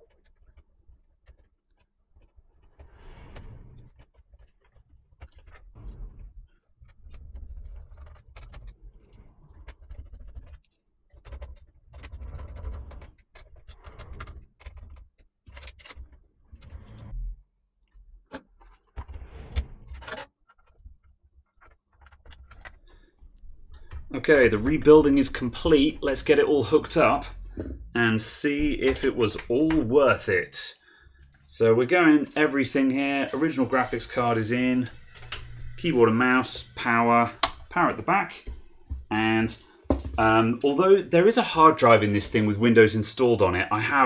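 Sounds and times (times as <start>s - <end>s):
computer parts clicking and scraping: 0.0s - 17.2s, 17.8s - 30.2s, 31.0s - 37.8s.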